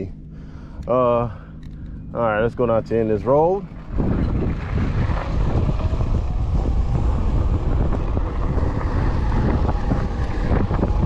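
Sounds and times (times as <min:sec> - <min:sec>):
wind buffeting microphone: 0:02.1 - 0:11.0.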